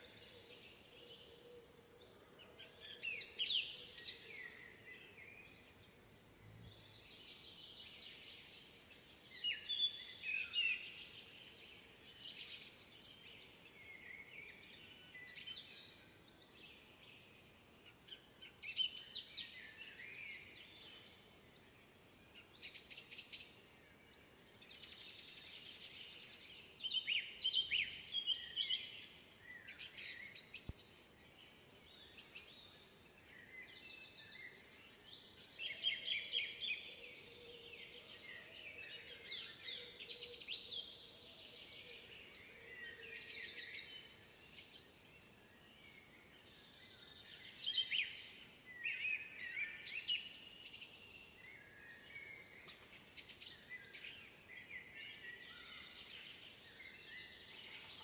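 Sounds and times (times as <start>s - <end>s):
faint steady hiss: 0.0s - 58.0s
songbirds singing trilled phrases: 2.9s - 58.0s.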